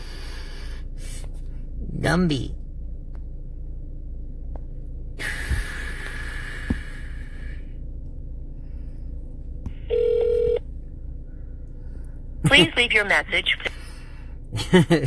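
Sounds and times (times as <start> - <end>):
low phone line hum: 0.0 - 15.0.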